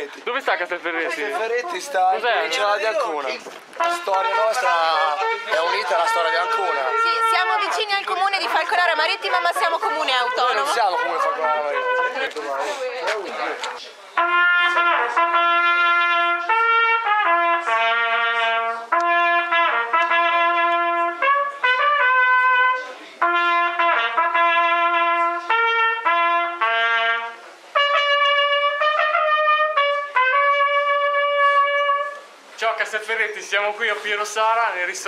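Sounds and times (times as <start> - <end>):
solo trumpet melody: 0.9 - 32.5.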